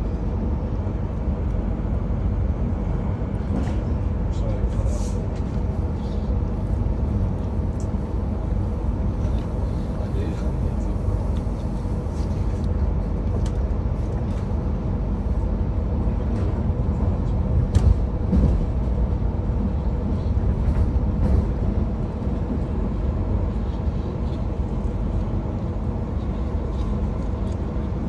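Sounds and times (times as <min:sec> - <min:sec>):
train rumbling on board: 0:00.0 - 0:28.0.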